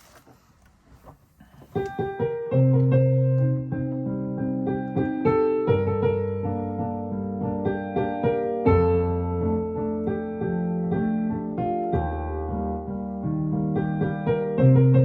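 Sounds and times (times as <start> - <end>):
slow piano piece: 1.0 - 15.0.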